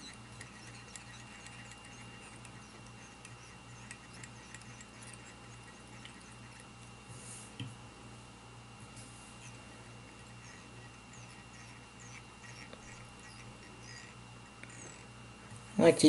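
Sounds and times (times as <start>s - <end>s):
thread scratching ticks: 0.0s - 6.9s, 9.4s - 15.8s
low electrical hum: 0.0s - 16.0s.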